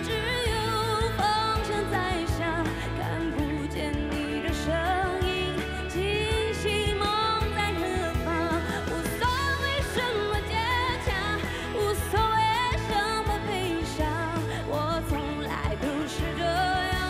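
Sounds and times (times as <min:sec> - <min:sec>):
band with bass and drums: 0:00.0 - 0:17.0
woman singing pop song: 0:00.0 - 0:17.0.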